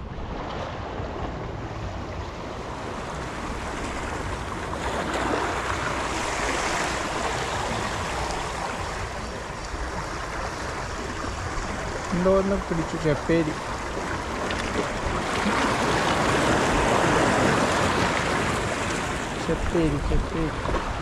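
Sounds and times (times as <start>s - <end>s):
wind rumble on microphone: 0.0s - 21.0s
waves washing over rocks: 0.1s - 21.0s.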